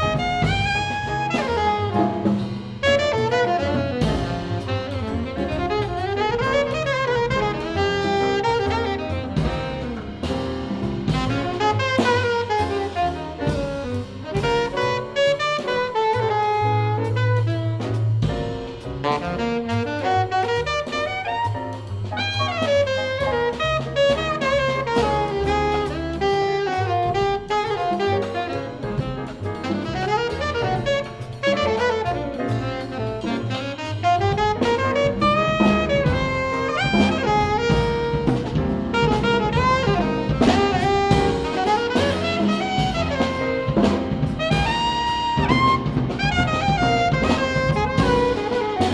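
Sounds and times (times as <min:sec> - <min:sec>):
acoustic bass: 0:00.0 - 0:48.9
alto saxophone: 0:00.0 - 0:48.9
drum kit: 0:00.0 - 0:48.9
piano: 0:00.0 - 0:48.9.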